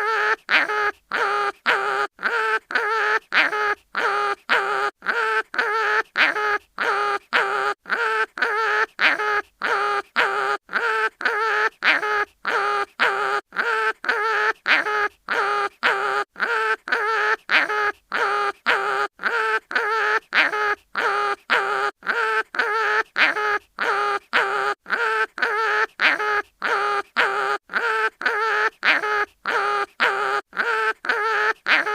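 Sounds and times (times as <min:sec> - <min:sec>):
cartoon animal pain cries: 0:00.0 - 0:31.9.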